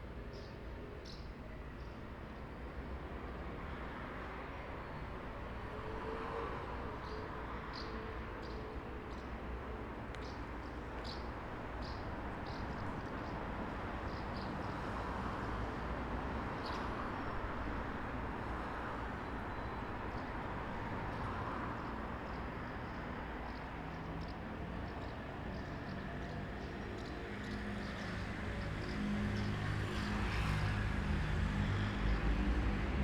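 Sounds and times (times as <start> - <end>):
traffic noise: 0.0 - 33.0.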